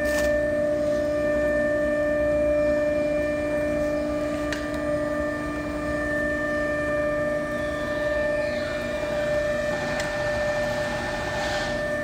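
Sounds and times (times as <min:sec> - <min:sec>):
industrial machine whining: 0:00.0 - 0:12.0.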